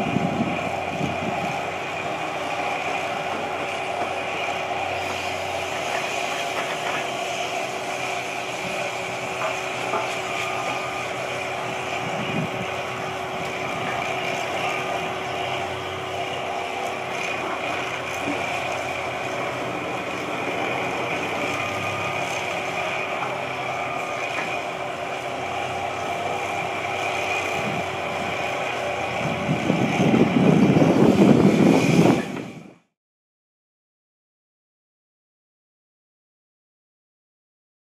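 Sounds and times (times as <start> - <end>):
drill rig engine and hydraulics: 0.0 - 33.0.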